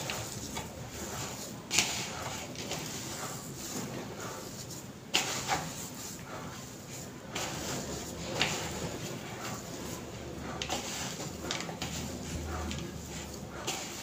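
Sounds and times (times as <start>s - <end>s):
moist mixture rustling: 0.0s - 14.0s.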